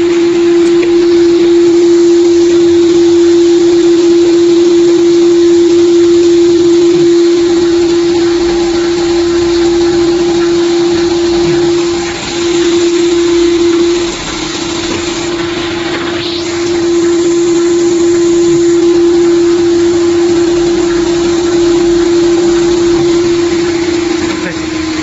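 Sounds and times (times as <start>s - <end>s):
machine motor hum: 0.0s - 25.0s
noisy whir: 0.0s - 25.0s.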